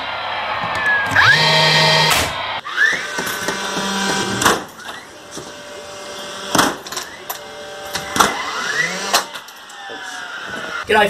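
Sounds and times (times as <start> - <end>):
nail gun motor whine: 1.0 - 10.8.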